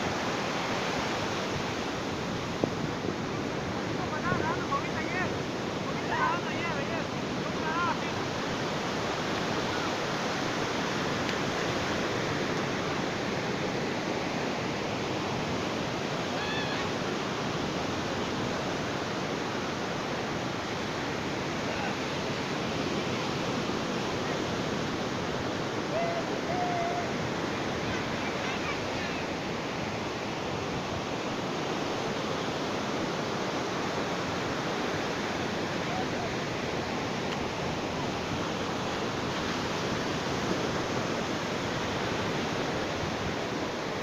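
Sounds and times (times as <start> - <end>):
ocean surf washing: 0.0 - 44.0.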